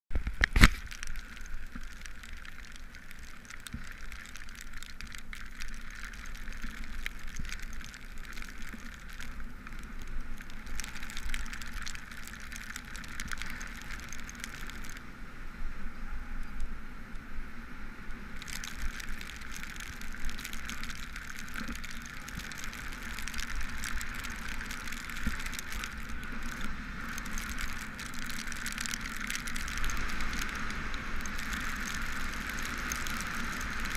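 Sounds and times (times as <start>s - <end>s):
raindrop ticks: 0.1s - 15.1s, 18.0s - 33.9s
steady low rumble: 0.1s - 33.9s
bicycle tyres hissing on wet road: 0.2s - 33.9s.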